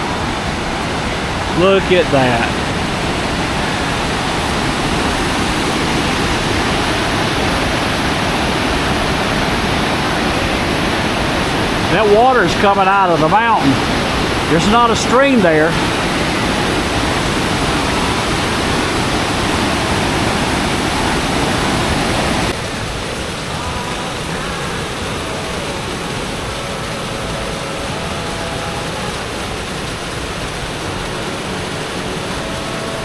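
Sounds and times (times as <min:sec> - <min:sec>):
waterfall rushing roar: 0:00.0 - 0:33.0.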